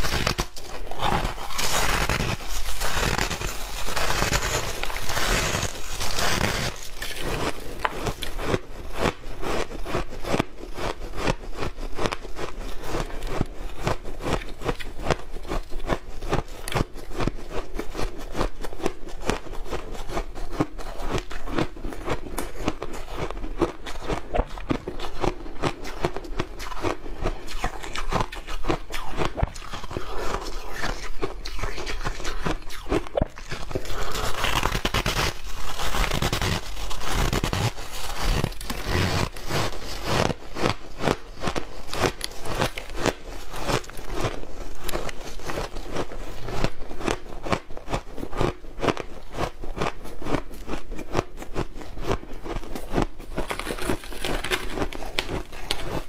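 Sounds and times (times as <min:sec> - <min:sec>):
ice crunching while chewed: 0:00.0 - 0:56.0.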